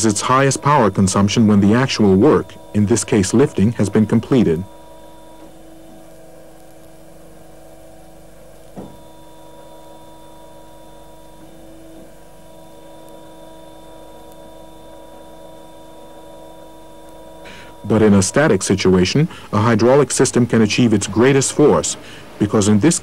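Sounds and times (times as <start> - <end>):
hydraulic pump hum and whine: 0.0 - 23.0.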